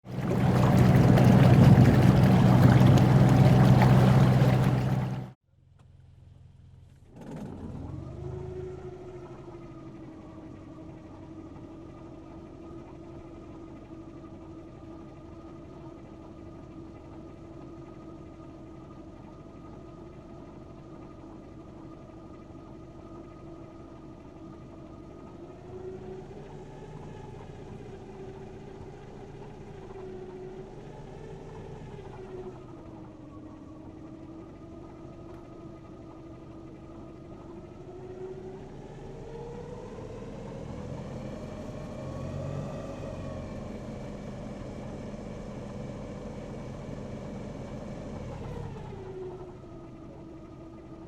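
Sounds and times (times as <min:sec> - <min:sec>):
hovercraft engine idling: 0:00.0 - 0:05.4, 0:08.8 - 0:38.8, 0:43.5 - 0:51.0.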